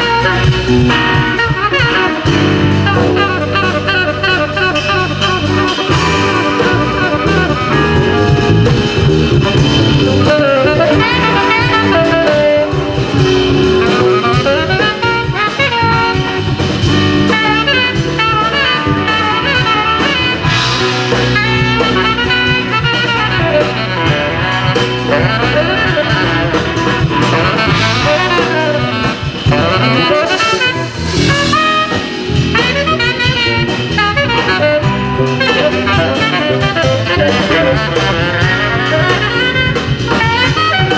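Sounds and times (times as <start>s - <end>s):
bass: 0.0s - 40.9s
cymbals: 0.0s - 40.9s
guitar: 0.0s - 40.9s
saxophone melody: 0.0s - 40.9s.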